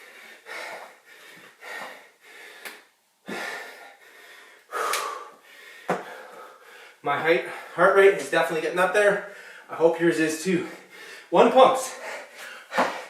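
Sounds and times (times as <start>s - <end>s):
man breathing hard: 0.0s - 7.9s, 9.2s - 9.7s, 10.6s - 13.0s.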